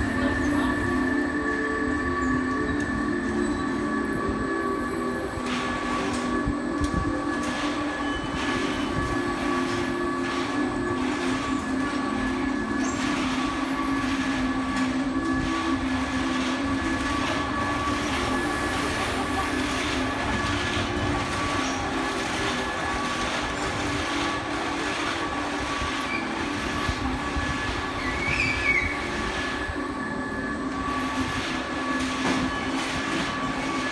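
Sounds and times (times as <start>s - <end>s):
carousel machinery drone: 0.0s - 33.9s.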